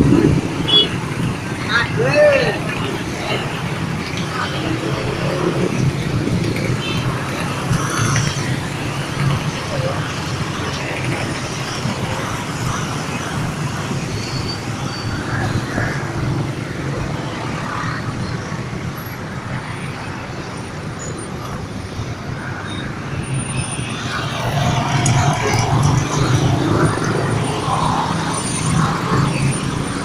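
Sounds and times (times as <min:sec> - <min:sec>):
vehicle rumble: 0:00.0 - 0:30.0.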